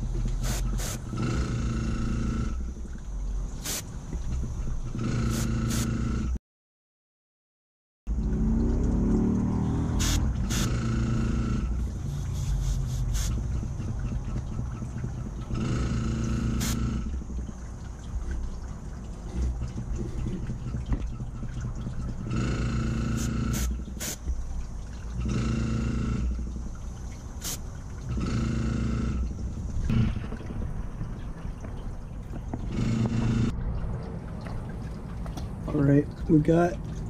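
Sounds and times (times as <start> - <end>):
compressor motor running: 0.0 - 6.4, 8.1 - 33.5.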